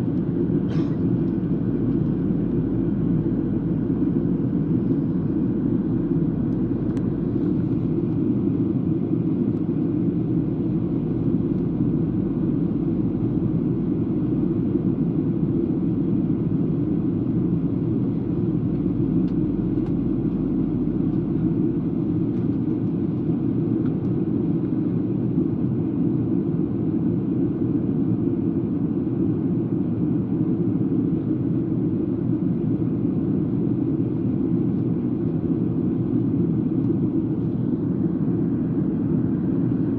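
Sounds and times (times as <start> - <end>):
airliner engine and airflow rumble: 0.0 - 39.9.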